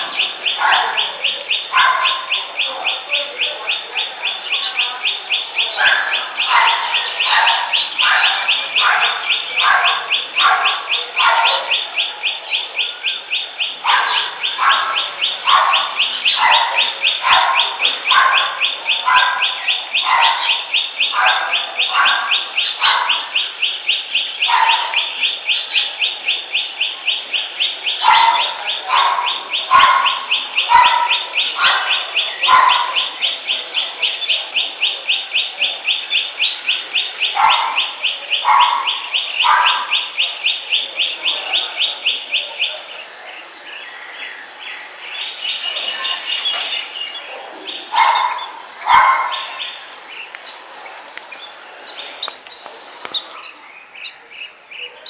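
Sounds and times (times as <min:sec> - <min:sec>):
bird calling: 0:00.0 - 0:55.0.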